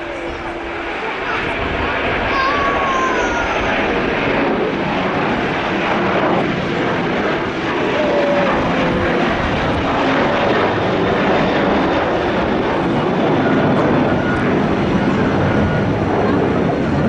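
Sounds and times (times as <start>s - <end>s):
jet airliner engines rushing: 0.0s - 17.0s.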